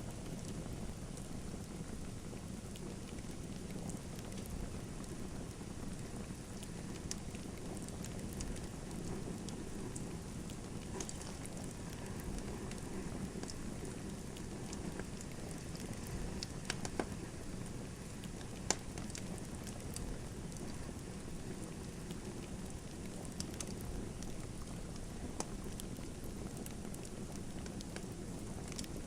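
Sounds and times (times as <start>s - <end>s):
fire burning rumble: 0.0s - 29.0s
fire crackling pops: 0.0s - 29.0s.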